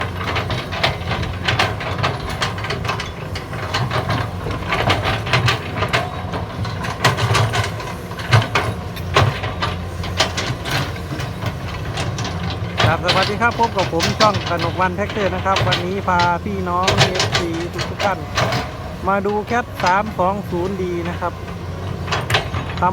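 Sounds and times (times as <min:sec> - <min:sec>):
digging knocks and clatter: 0:00.0 - 0:22.9
excavator diesel engine running: 0:00.0 - 0:22.9.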